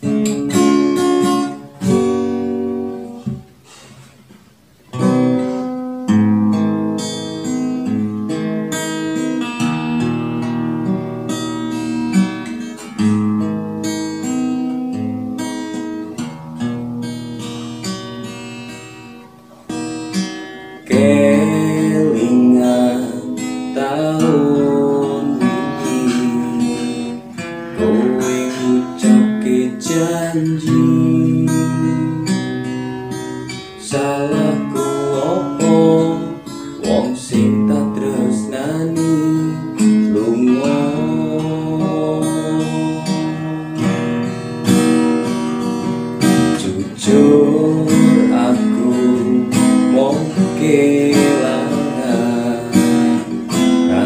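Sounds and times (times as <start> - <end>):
acoustic guitar strummed: 0.0 - 54.0.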